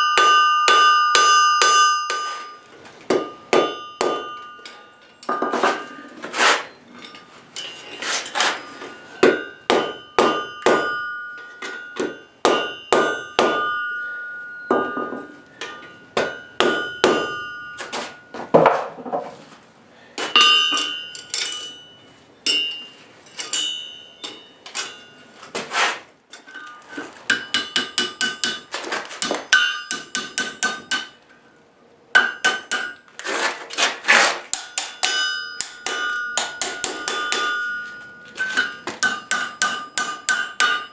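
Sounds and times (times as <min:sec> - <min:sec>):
hammer striking anvil: 0:00.0 - 0:06.0, 0:07.1 - 0:18.8, 0:20.2 - 0:25.2, 0:26.5 - 0:31.2, 0:32.2 - 0:33.0, 0:34.5 - 0:40.9.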